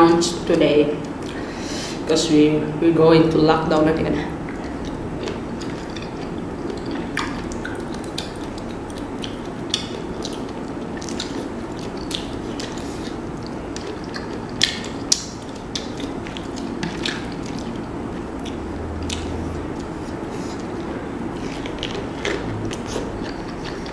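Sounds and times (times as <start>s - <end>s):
wet mouth noises and chewing: 4.4s - 23.9s.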